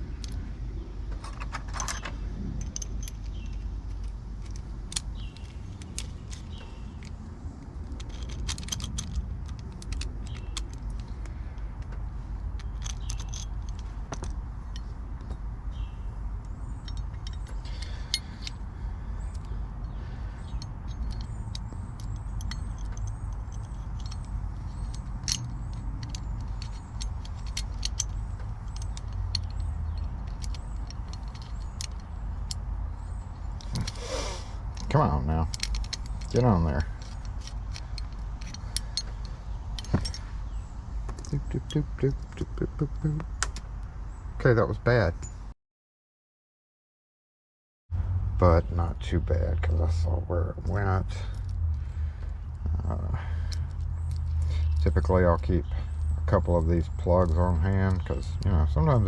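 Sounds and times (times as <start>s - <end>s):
metallic clicks of lock parts: 0.0s - 0.5s, 1.1s - 43.9s, 50.6s - 59.0s
steady low rumble: 0.0s - 45.3s, 47.9s - 59.0s.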